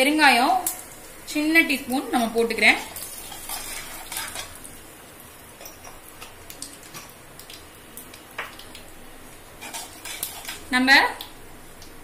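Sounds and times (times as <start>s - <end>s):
lentils sizzling in oil: 0.0s - 12.0s.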